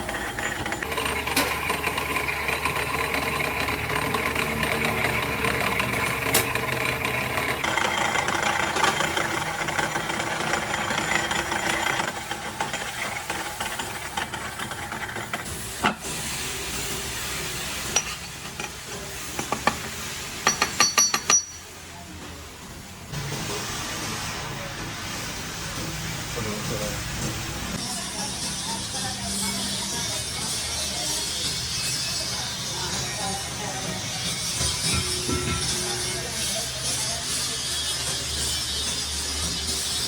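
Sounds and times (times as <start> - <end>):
workshop machine hissing: 0.0 - 40.0.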